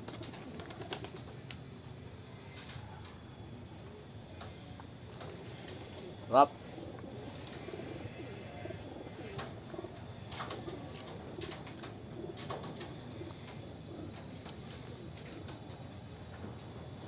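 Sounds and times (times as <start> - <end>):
dove cooing: 0.0 - 2.8, 5.0 - 16.0
steady high-pitched tone: 0.0 - 17.0.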